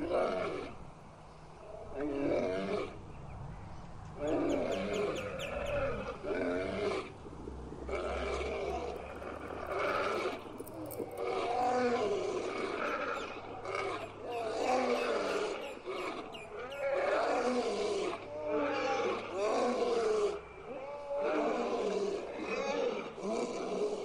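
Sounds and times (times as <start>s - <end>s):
lion roaring: 0.0s - 0.8s, 1.6s - 3.0s, 4.2s - 24.0s.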